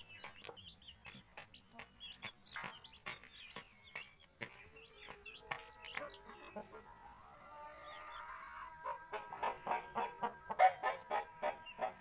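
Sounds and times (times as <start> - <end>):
chicks peeping: 0.0 - 12.0
hen clucking: 0.0 - 12.0.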